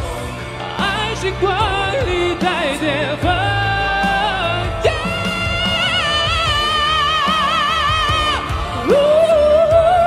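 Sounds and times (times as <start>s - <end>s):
live band accompaniment: 0.0s - 10.0s.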